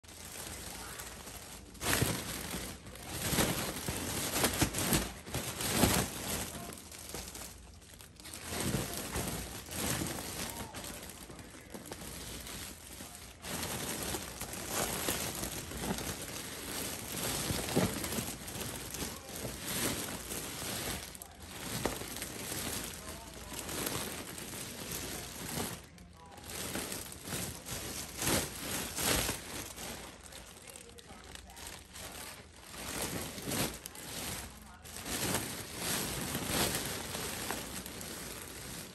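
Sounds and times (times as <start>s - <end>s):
foil balloon crinkling: 0.0s - 38.9s.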